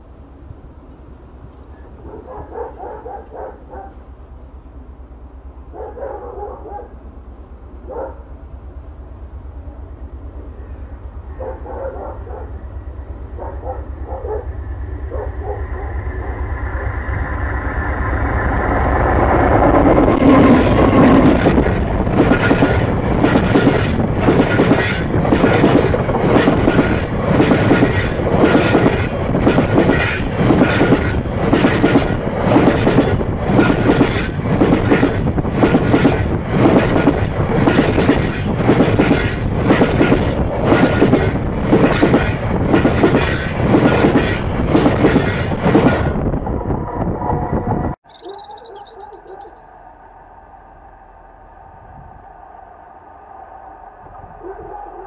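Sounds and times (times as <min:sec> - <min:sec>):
train rumble and rail hum: 0:00.0 - 0:55.0.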